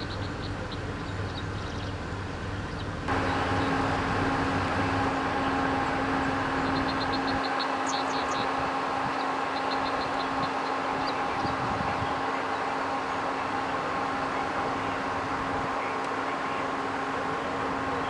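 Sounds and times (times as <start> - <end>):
low hum: 0.0 - 18.0
outdoor rumble: 0.0 - 18.0.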